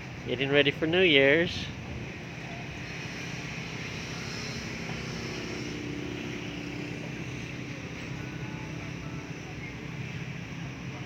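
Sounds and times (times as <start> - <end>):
engine drone: 0.0 - 11.0
low hum: 1.6 - 11.0.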